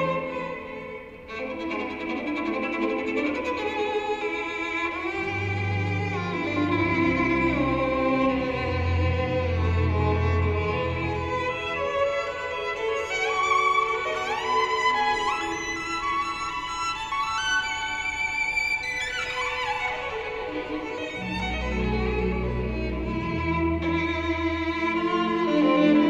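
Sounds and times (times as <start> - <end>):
violin-led string music: 0.0 - 26.0.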